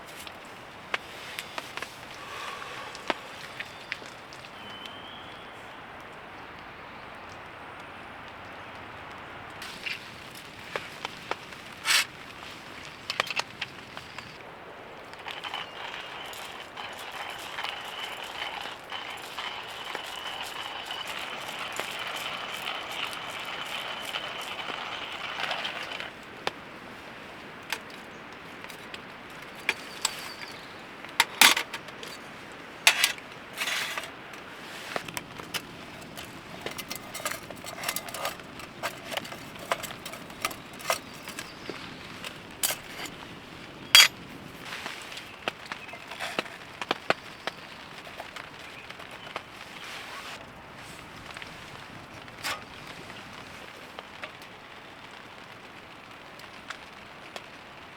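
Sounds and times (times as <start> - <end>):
rain hissing: 0.0 - 5.9, 9.6 - 57.9.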